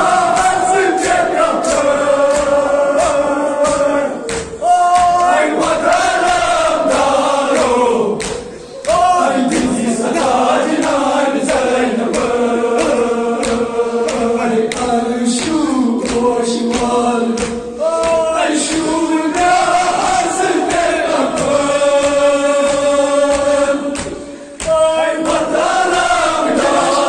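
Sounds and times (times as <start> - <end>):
men chanting in unison: 0.0 - 27.0
sharp rhythmic beats: 0.0 - 27.0.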